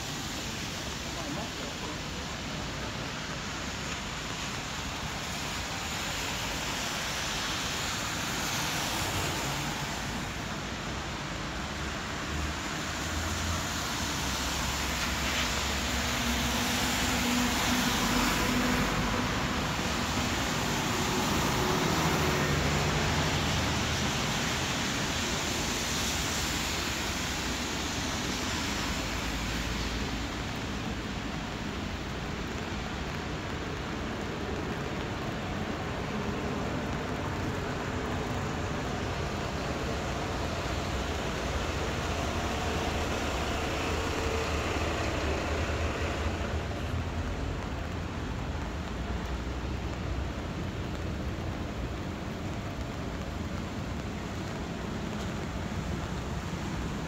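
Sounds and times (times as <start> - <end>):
bus engines passing: 0.0 - 57.0
rain and tyres hissing on wet road: 0.0 - 57.0.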